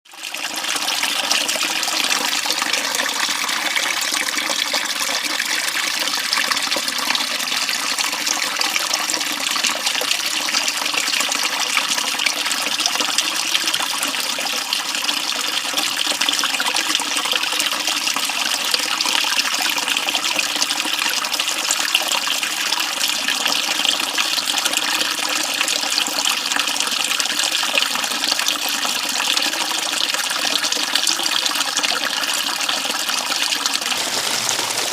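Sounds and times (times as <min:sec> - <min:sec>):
creek flowing: 0:00.1 - 0:34.9.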